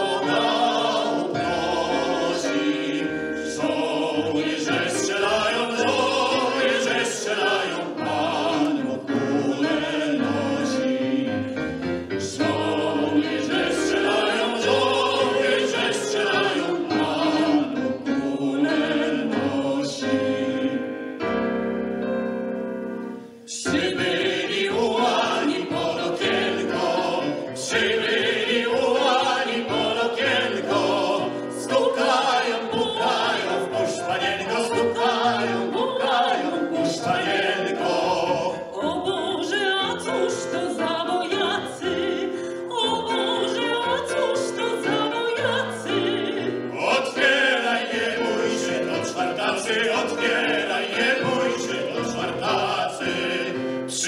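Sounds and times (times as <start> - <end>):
vocal quartet singing in harmony: 0.0 - 54.0.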